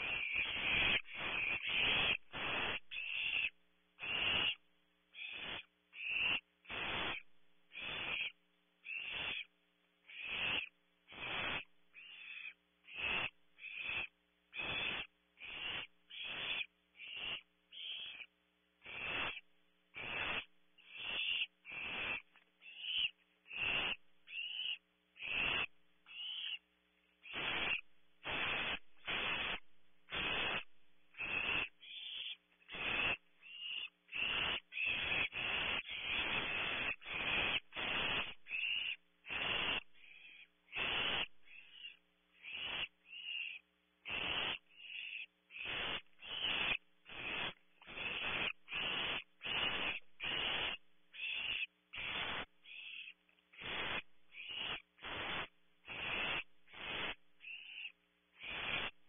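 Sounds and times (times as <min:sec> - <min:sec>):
owl nestlings hissing begging calls: 0:00.0 - 0:59.0.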